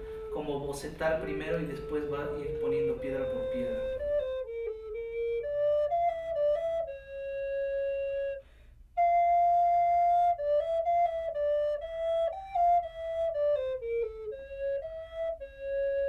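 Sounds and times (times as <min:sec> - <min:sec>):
recorder playing slow melody: 0:00.0 - 0:16.0.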